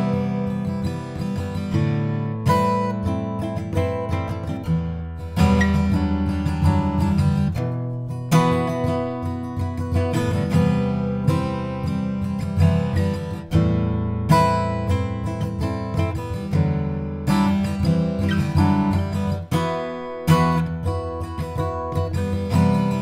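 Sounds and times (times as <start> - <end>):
acoustic guitar picking and strumming: 0.0 - 23.0.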